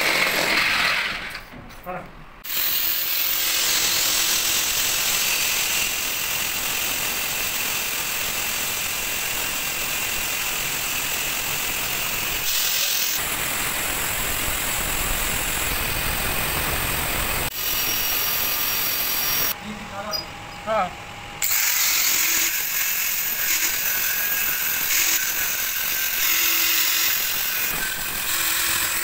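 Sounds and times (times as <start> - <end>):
angle grinder cutting metal pipe: 2.4 - 19.6, 21.4 - 29.0.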